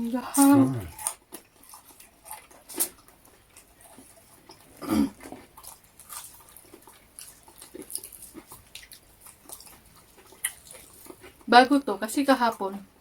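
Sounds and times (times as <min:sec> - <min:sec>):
chewing and mouth clicks: 0:00.4 - 0:11.5.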